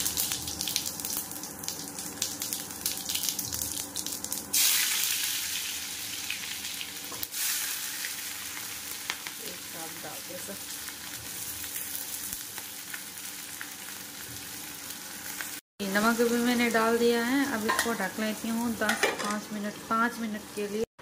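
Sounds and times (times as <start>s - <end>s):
seeds crackling in hot oil: 0.0s - 19.0s
oil sizzling loudly: 0.0s - 20.9s.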